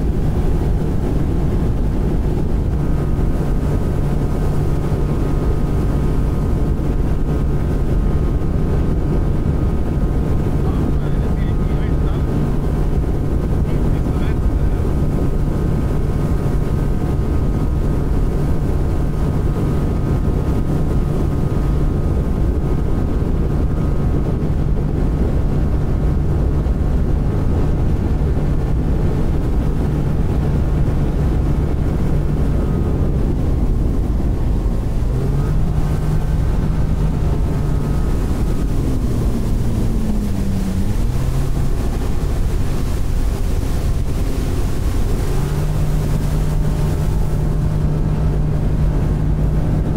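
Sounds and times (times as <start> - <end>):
outboard motor droning: 0.0 - 49.9
water rushing past hull: 0.0 - 49.9
wind on microphone: 0.0 - 49.9.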